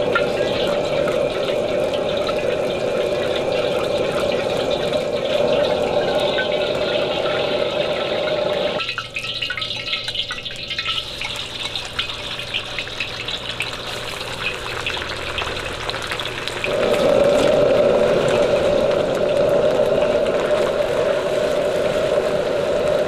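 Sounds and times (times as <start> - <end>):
gas burner rushing: 0.0 - 8.8, 11.0 - 23.0
oil crackling and sizzling: 0.0 - 23.0.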